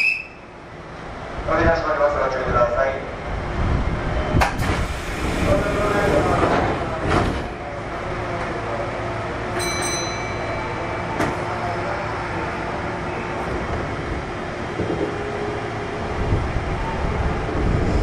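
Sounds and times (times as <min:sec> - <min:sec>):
train car hum and hiss: 0:00.0 - 0:18.0.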